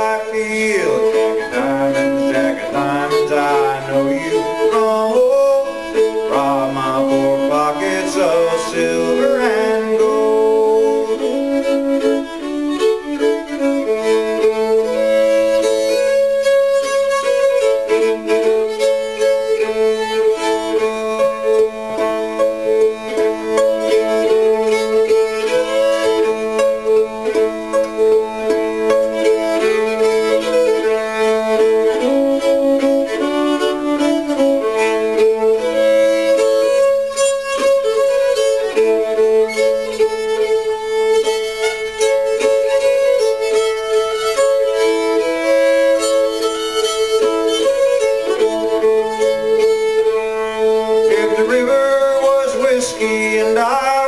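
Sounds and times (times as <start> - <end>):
fiddle playing lively tune: 0.0 - 54.0.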